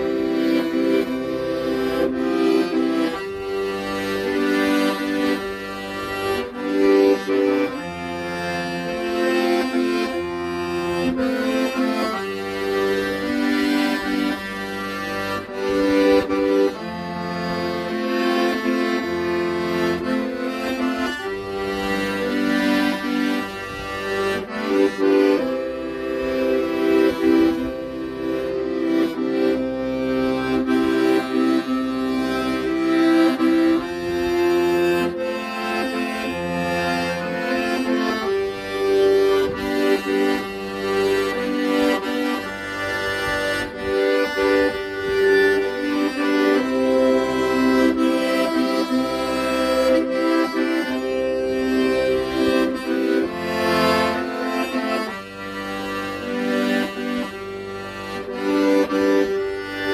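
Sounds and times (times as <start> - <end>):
accordion ballad: 0.0 - 59.9.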